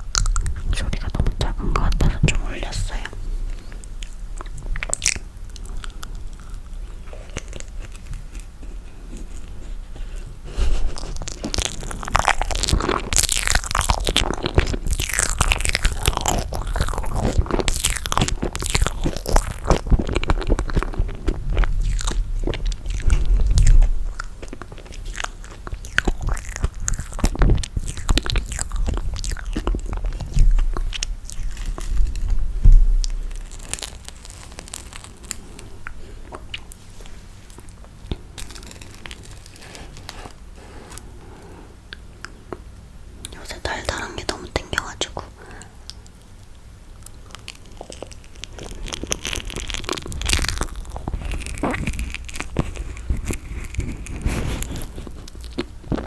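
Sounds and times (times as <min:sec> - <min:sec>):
person chewing marshmallow: 0:00.0 - 0:56.0.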